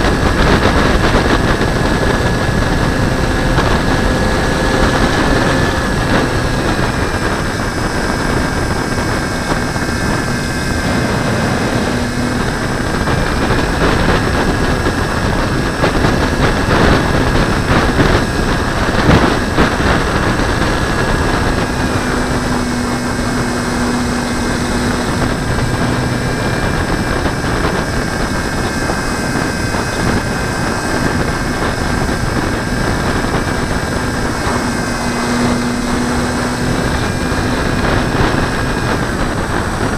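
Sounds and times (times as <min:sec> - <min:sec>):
aircraft engine drone: 0:00.0 - 0:39.9
wind rushing over microphone: 0:00.0 - 0:39.9.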